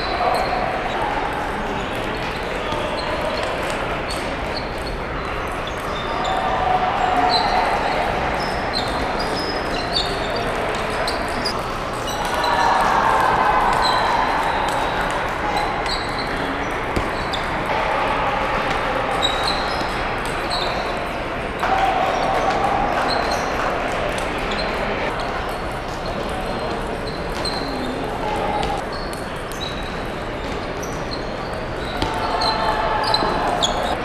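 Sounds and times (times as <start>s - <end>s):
hubbub of voices in a hall: 0.0s - 34.0s.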